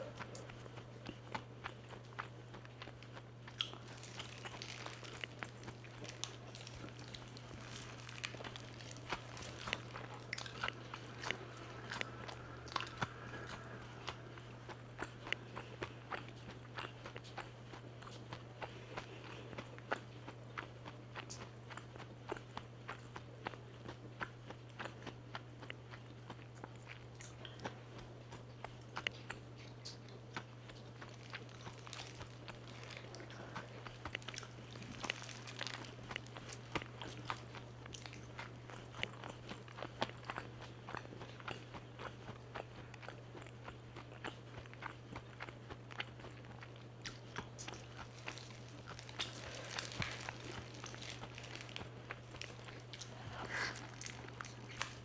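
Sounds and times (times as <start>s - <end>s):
steady low hum: 0.0s - 21.2s, 27.1s - 55.0s
crunchy chewing: 0.0s - 55.0s.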